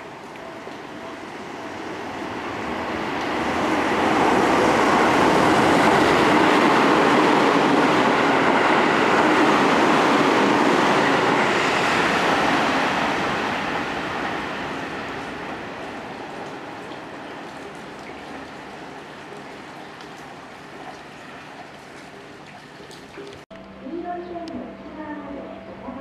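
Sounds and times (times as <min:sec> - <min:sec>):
train wheels on rails: 0:00.0 - 0:22.4.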